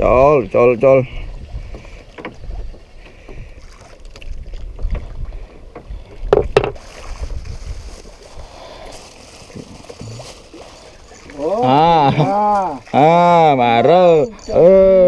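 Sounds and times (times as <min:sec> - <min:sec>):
wind buffeting microphone: 0:00.0 - 0:12.1
water lapping against boat hull: 0:00.0 - 0:15.0.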